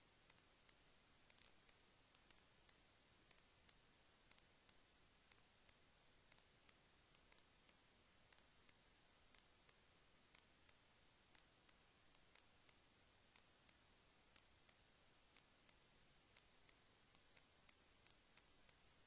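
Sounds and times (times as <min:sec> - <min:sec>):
faint hiss: 0:00.0 - 0:19.0
regular sharp ticks: 0:00.0 - 0:19.0.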